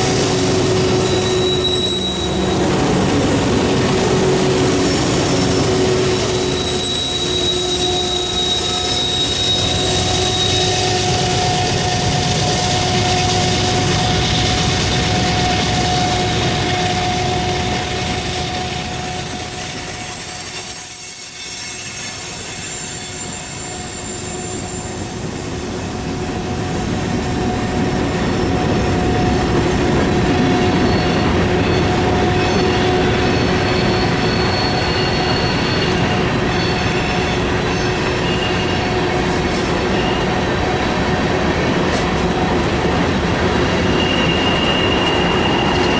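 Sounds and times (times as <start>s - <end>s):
train rumble: 0.0s - 45.9s
train wheels squealing on rails: 0.0s - 45.9s.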